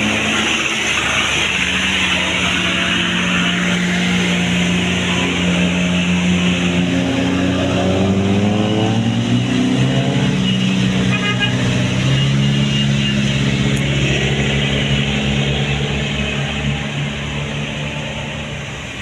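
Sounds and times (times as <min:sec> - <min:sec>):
diesel bus engine accelerating: 0:00.0 - 0:19.0.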